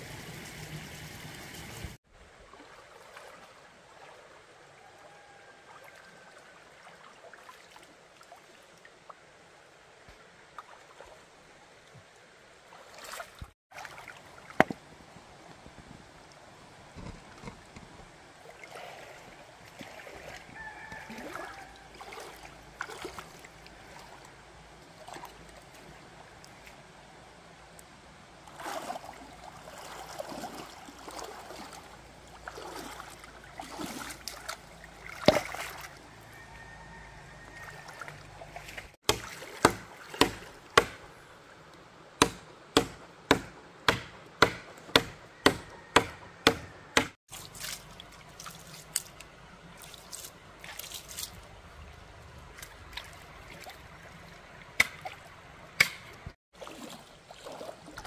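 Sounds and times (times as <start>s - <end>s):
stream water trickling: 0.0s - 45.9s, 47.0s - 58.0s.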